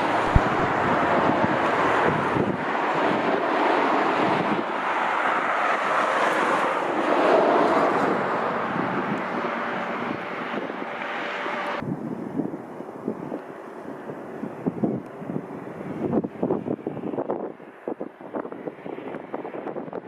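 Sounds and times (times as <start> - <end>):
jet airliner engine noise: 0.0 - 20.0
wind buffeting microphone: 0.0 - 20.0.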